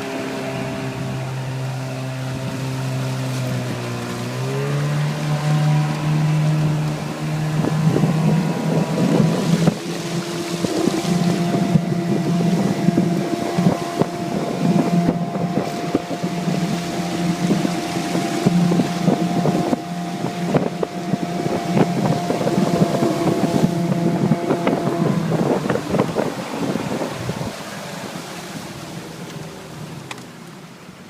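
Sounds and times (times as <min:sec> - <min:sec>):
wind on microphone: 0:00.0 - 0:29.2
outboard motor running: 0:00.0 - 0:31.0.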